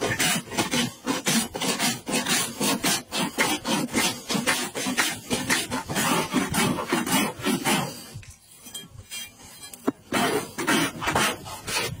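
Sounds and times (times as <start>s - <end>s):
hoof rasp scraping: 0.0s - 12.0s.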